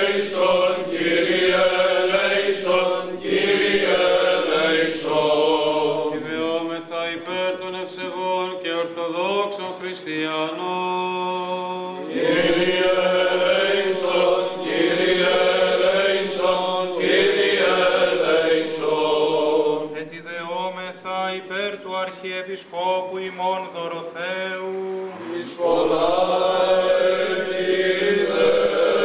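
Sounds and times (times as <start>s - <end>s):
chant singing: 0.0s - 29.0s.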